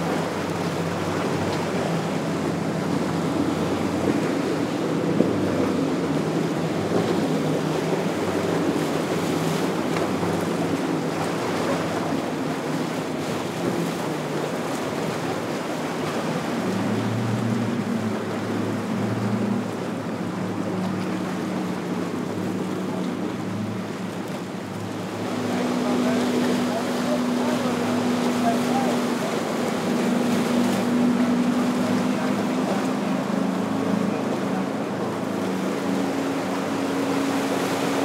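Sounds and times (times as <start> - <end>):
boat engines droning: 0.0 - 38.0
surf rushing: 0.0 - 38.0
wind: 0.0 - 38.0.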